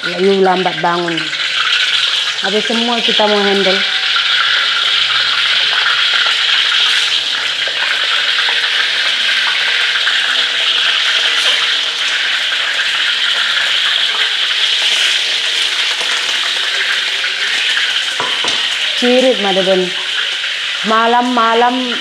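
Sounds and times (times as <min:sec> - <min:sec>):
eggs sizzling in hot oil: 0:00.0 - 0:22.0.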